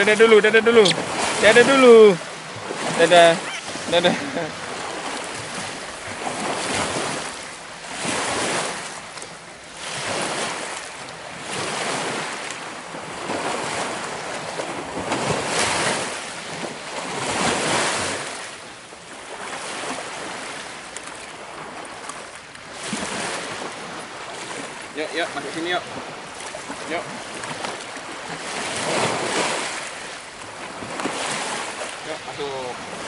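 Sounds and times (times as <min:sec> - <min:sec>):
waves washing onto stony shore: 0:00.0 - 0:33.0.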